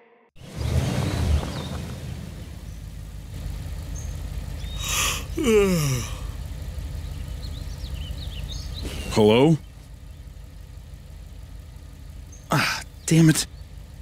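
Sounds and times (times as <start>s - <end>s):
car engine idling: 0.4s - 14.0s.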